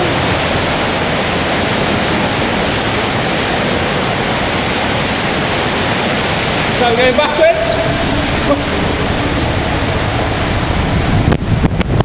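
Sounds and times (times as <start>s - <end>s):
water rushing down slide tube: 0.0s - 12.0s.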